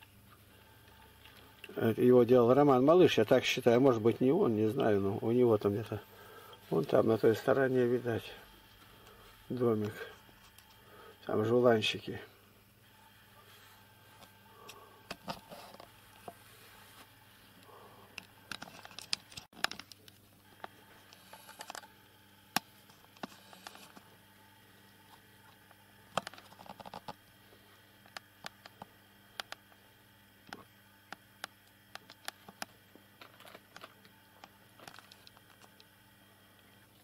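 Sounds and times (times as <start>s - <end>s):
faint electrical hum: 0.0s - 37.0s.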